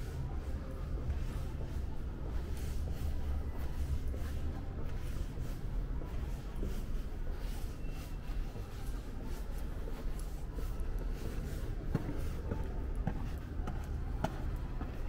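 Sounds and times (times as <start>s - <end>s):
footsteps indoors: 0.0s - 15.0s.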